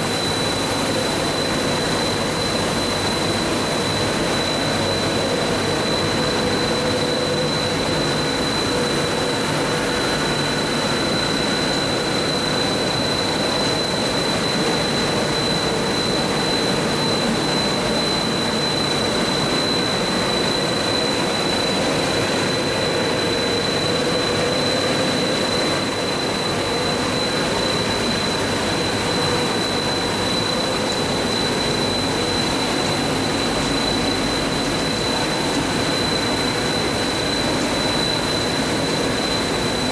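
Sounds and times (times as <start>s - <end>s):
high-pitched whine: 0.0s - 39.9s.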